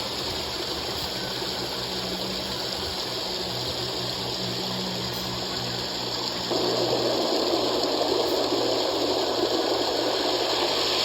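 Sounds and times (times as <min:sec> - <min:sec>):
water gushing: 0:00.0 - 0:11.0
low hum: 0:01.1 - 0:11.0.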